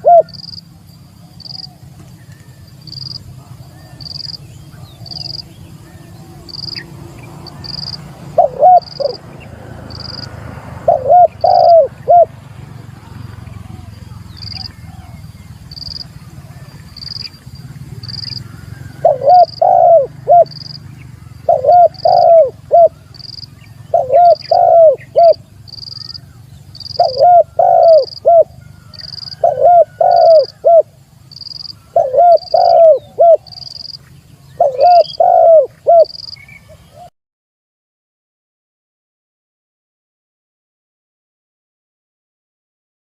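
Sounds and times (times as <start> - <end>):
dove cooing: 0.0 - 0.6, 1.2 - 37.1.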